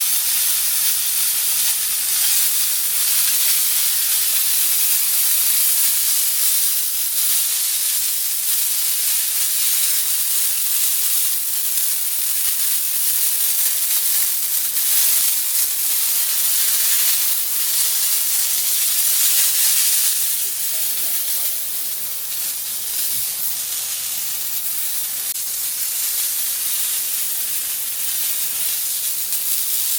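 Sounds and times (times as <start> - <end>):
water spraying from burst pipe: 0.1 - 29.9.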